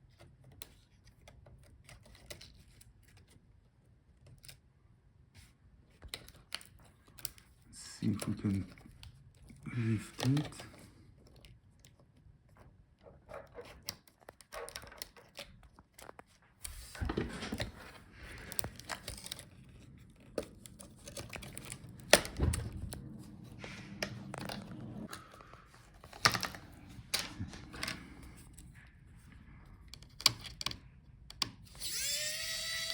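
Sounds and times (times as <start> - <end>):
clicks scrapes and rustling: 0.0 - 3.5, 5.4 - 29.0, 29.8 - 31.6.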